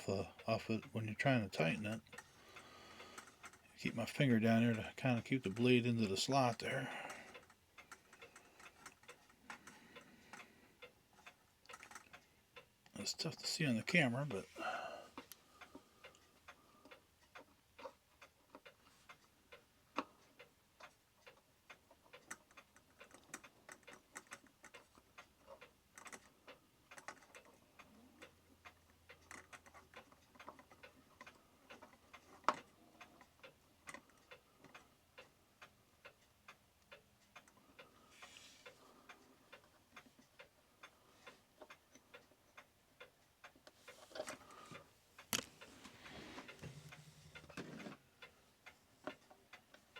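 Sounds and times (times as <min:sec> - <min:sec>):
pendulum clock ticking: 0:00.0 - 0:49.9.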